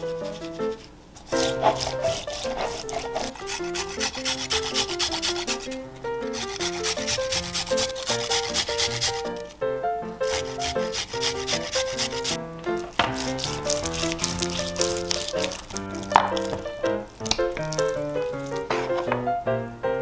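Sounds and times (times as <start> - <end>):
rasp grater scraping meat: 0.0 - 9.4, 10.2 - 19.1
background music: 1.3 - 20.0.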